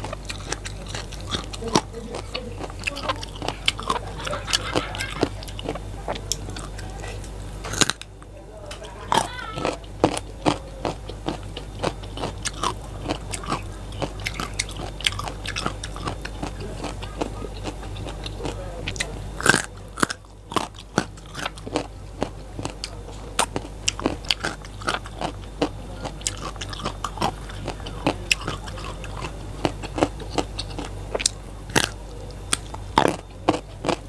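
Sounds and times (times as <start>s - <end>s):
crunchy chewing of raw vegetables: 0.0s - 34.0s.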